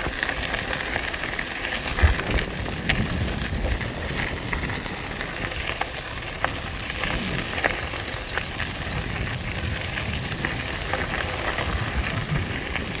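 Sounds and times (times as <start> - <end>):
bike tyres rolling on gravel: 0.0 - 13.0.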